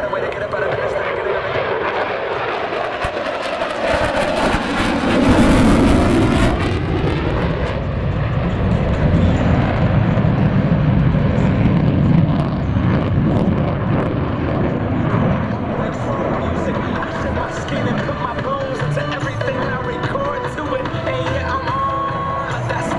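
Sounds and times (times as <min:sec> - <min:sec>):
jet engines flying overhead: 0:00.0 - 0:22.9.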